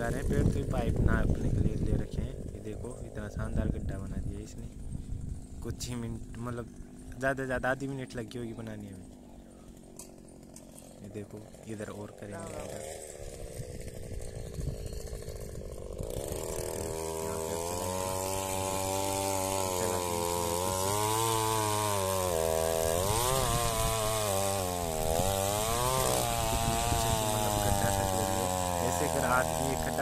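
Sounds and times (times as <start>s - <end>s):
earth auger engine revving: 0.0s - 30.0s.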